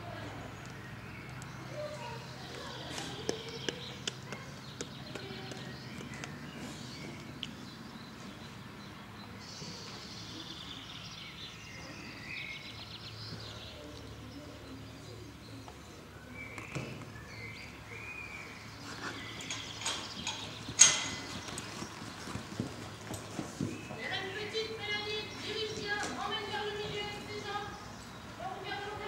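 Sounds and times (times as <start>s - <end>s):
small birds chirping and trilling: 0.0s - 29.0s.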